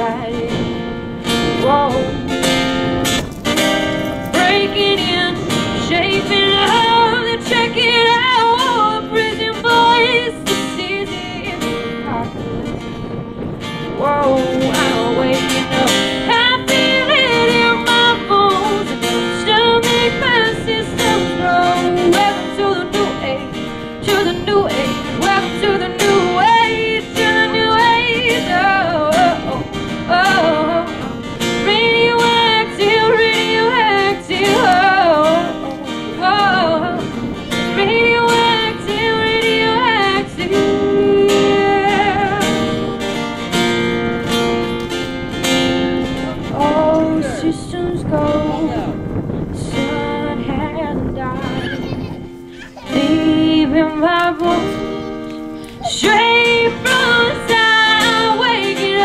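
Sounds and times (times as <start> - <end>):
woman singing: 0.0 - 2.6, 3.7 - 12.9, 13.9 - 43.2, 46.1 - 51.9, 52.8 - 59.0
strummed acoustic guitar: 0.0 - 59.0.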